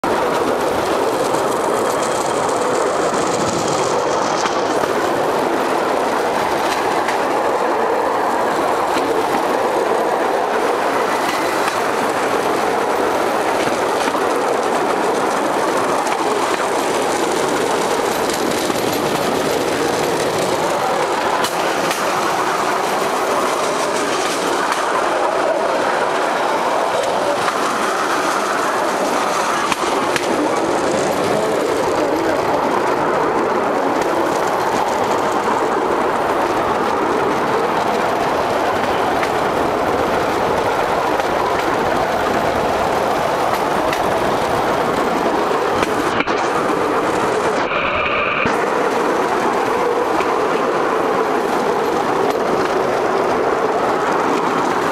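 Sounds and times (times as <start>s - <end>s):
wheels clacking on rail joints: 0.0s - 47.7s, 48.4s - 54.9s.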